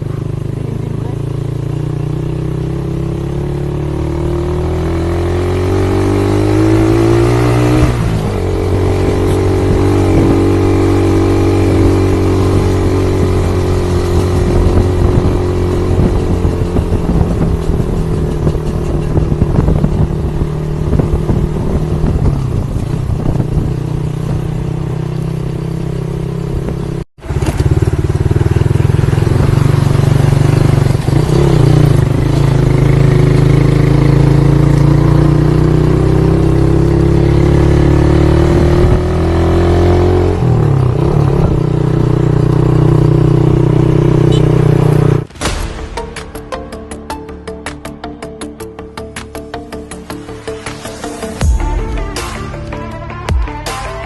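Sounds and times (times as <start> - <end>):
motorcycle engine revving: 0.0 - 45.3.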